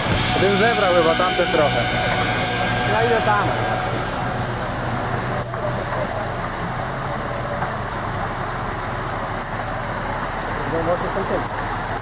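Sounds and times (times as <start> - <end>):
steady rush of noise: 0.0 - 12.0
vehicle engine idling: 0.0 - 12.0.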